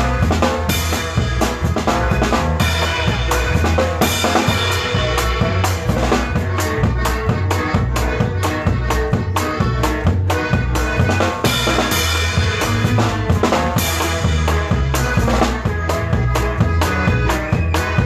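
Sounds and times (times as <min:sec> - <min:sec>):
drum kit dance beat: 0:00.0 - 0:18.0.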